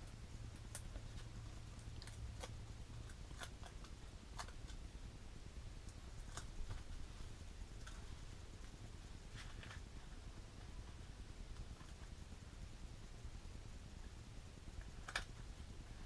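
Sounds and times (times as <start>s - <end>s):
faint steady low hum: 0.0s - 16.0s.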